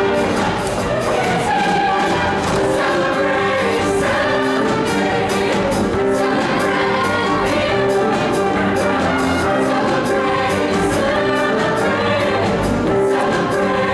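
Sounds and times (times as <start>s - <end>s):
choir singing in harmony: 0.0s - 13.9s
instrumental backing music: 0.0s - 13.9s
steady drum beat: 0.0s - 13.9s.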